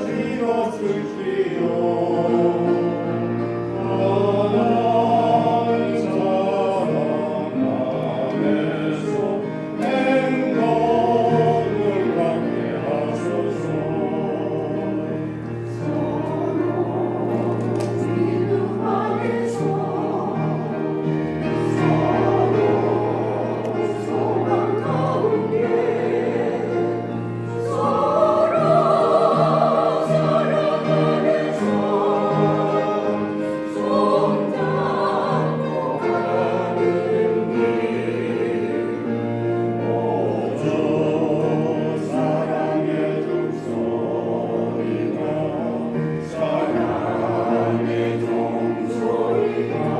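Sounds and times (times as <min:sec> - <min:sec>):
choir singing a hymn: 0:00.0 - 0:49.9.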